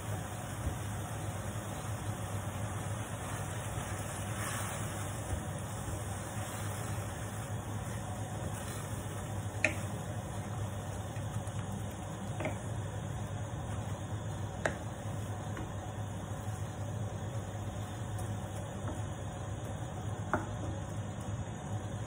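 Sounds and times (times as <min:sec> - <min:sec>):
wooden spatula stirring leaves in pan: 0:00.0 - 0:20.8
low hum and hiss: 0:00.0 - 0:22.0.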